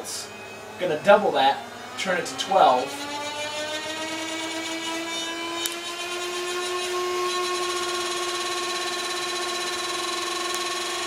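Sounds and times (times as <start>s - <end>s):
flywheel motors whining: 0.2s - 11.0s.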